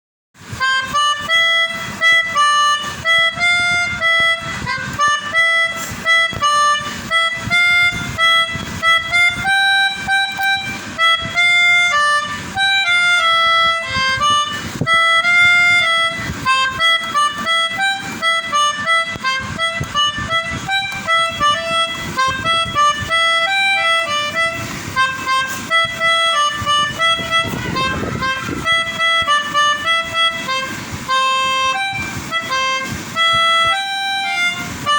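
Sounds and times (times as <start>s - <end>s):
melodica playing short notes: 0.5s - 34.9s.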